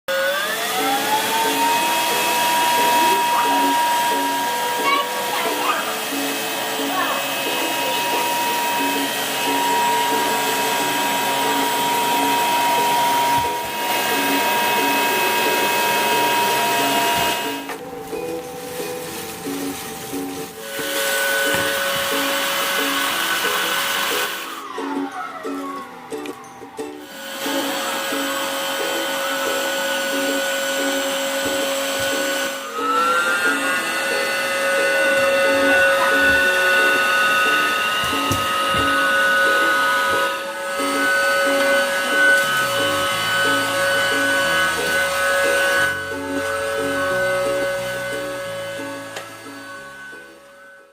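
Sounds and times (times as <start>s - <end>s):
stick vacuum running: 0.1s - 26.4s, 27.0s - 50.9s.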